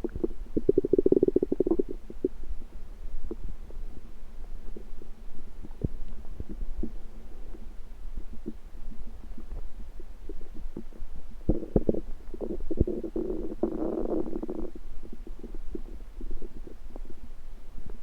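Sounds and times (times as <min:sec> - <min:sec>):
stomach rumbling and gurgling: 0:00.0 - 0:18.0.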